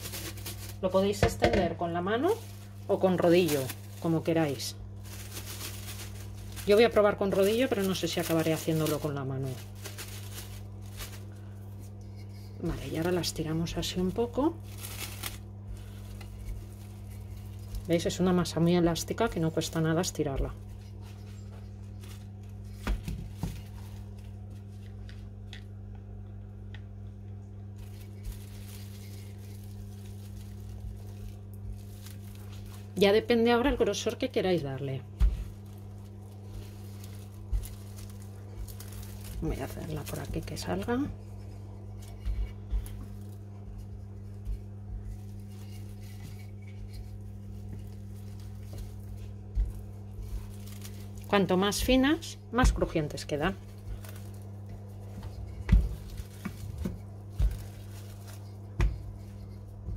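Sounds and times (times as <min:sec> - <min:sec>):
plastic wrap crinkling: 0:00.0 - 0:59.9
steady low hum: 0:00.0 - 0:59.9.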